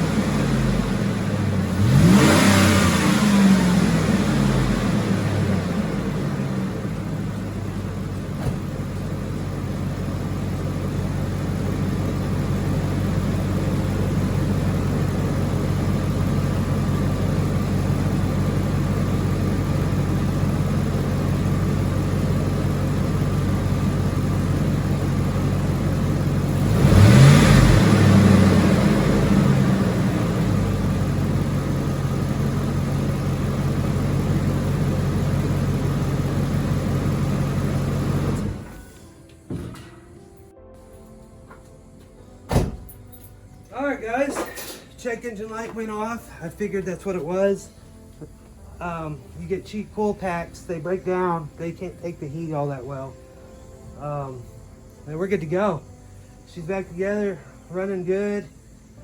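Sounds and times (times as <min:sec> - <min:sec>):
truck engine idling and revving: 0:00.0 - 0:59.0.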